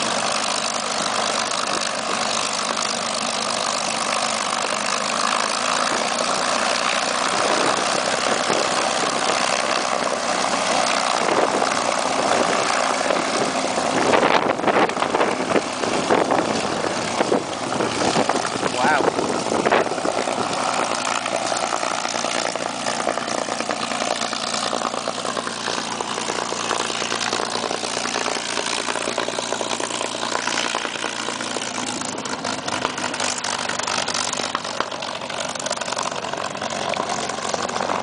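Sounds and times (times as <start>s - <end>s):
propeller plane engine running: 0.0s - 38.0s.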